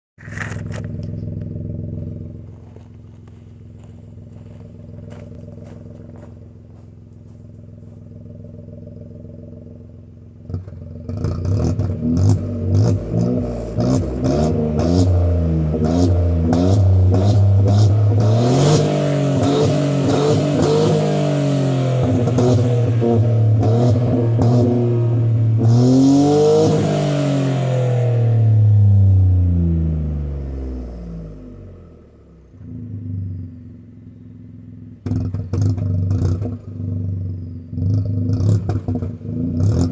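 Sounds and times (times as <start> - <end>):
car engine idling and revving: 0.2 - 39.9.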